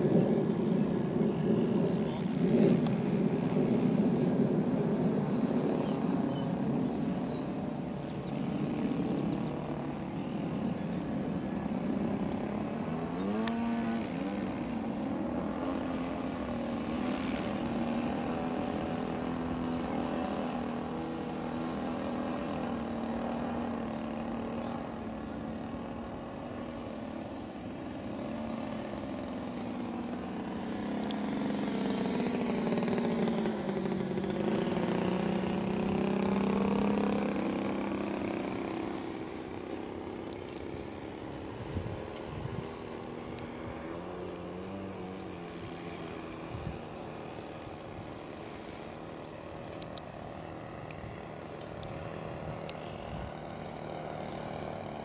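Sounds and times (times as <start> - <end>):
model plane engine in flight: 0.0 - 55.0.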